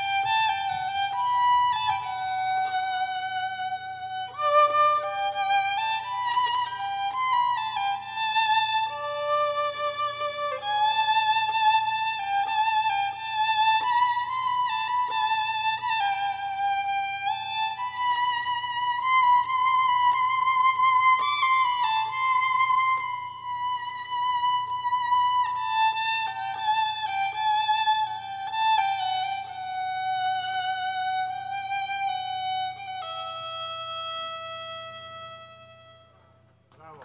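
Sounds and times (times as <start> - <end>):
solo violin slow melody: 0.0 - 37.0.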